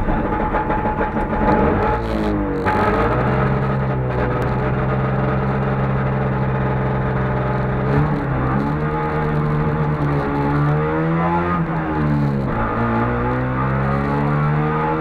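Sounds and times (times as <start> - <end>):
two-stroke car engine: 0.0 - 15.0.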